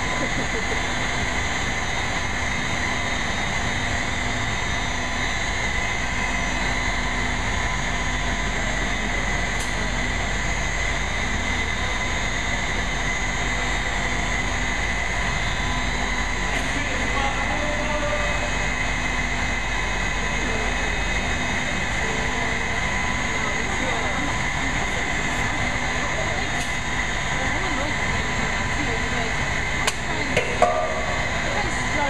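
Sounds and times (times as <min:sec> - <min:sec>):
machinery drone with high whine: 0:00.0 - 0:32.0.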